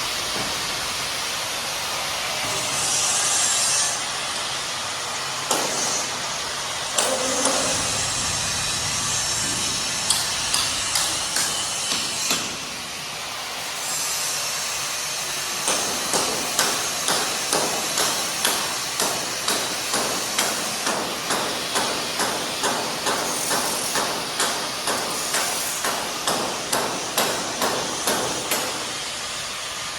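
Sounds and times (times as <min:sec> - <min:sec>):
hiss of site noise: 0:00.0 - 0:29.9.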